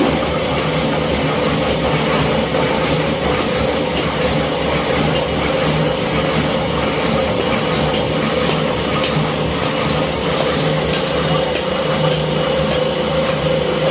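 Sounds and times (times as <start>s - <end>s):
plastic crusher machine humming: 0.0s - 13.9s.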